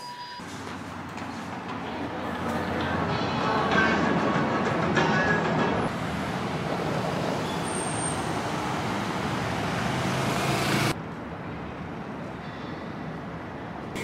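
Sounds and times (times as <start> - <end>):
passing cars: 0.4 - 14.0.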